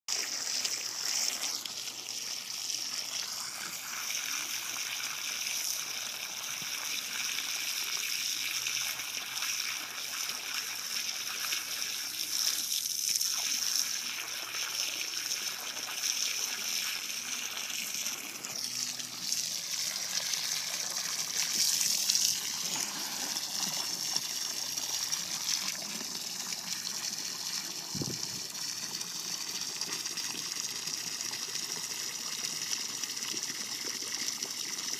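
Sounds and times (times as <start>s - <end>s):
hose water splashing: 0.1s - 34.9s.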